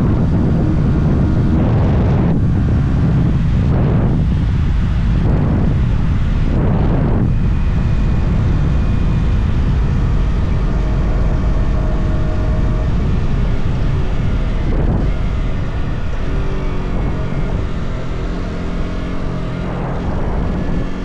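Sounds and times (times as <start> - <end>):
motorcycle engine cruising: 0.0 - 21.0
wind rush on microphone: 0.0 - 21.0.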